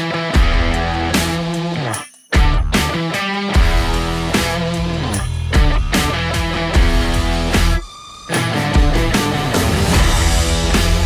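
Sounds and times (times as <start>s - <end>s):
music with strong beat: 0.0s - 11.0s.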